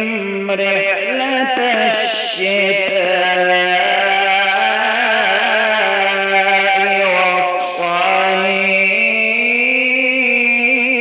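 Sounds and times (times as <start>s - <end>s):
person chanting melodic recitation: 0.0s - 11.0s.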